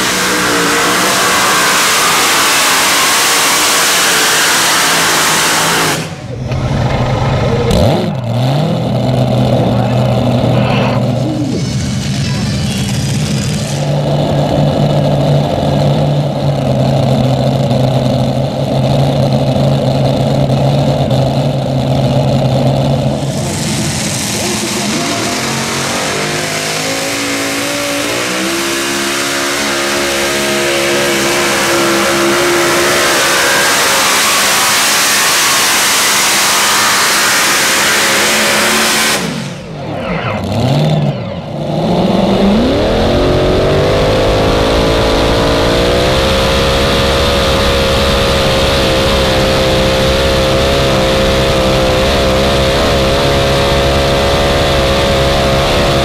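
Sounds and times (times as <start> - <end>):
falling and rising whine: 0.0 - 17.7, 20.0 - 56.0
tractor engine running hard: 0.0 - 56.0.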